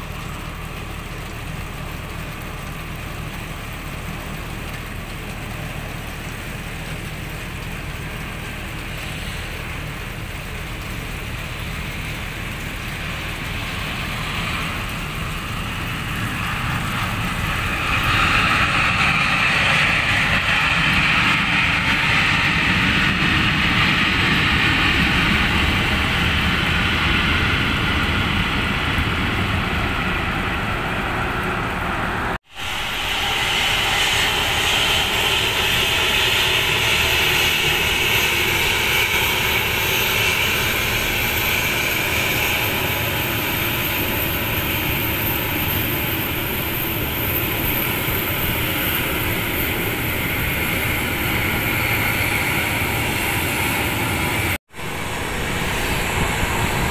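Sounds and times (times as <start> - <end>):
jet engines whining: 0.0 - 56.9.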